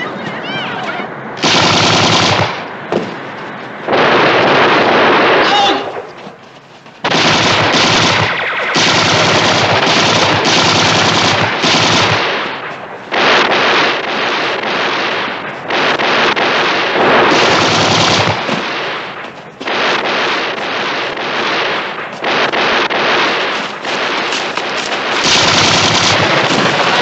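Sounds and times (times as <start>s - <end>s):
submachine gun fire: 1.4s - 3.2s, 3.9s - 6.2s, 7.0s - 27.0s.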